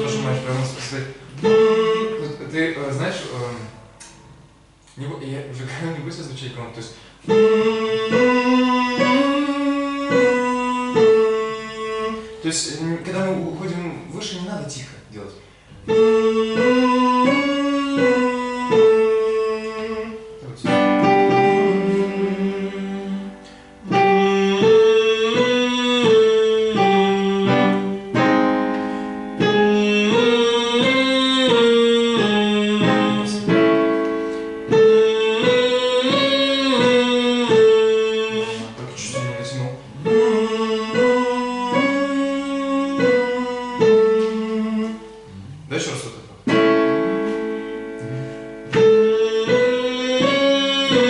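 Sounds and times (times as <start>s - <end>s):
person singing vocal exercises: 0.0s - 4.2s, 7.2s - 13.7s, 15.9s - 28.2s, 29.4s - 33.8s, 34.7s - 46.6s, 47.9s - 51.0s
piano accompaniment: 0.0s - 51.0s.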